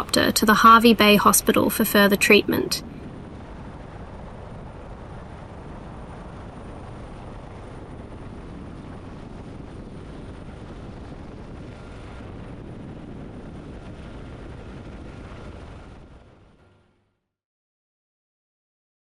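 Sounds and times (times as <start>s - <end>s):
helicopter engine and rotor drone: 0.0s - 16.8s.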